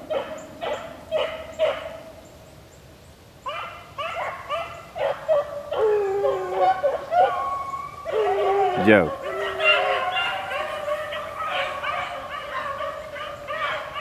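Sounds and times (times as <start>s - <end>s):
dogs barking: 0.0s - 2.1s, 3.5s - 14.0s
dogs baying: 0.0s - 2.1s, 3.5s - 14.0s.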